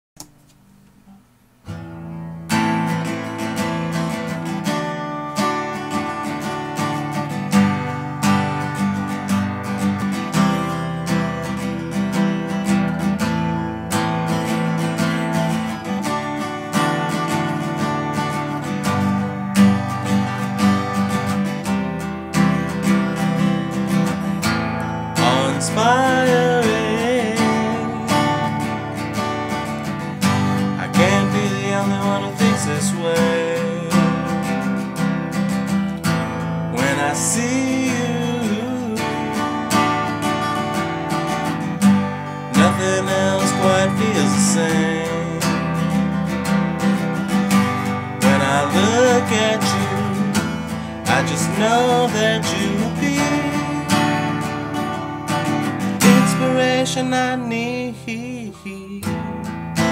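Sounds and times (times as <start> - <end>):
acoustic guitar chord ringing: 0.2 - 59.9
acoustic guitar strumming: 0.2 - 59.9.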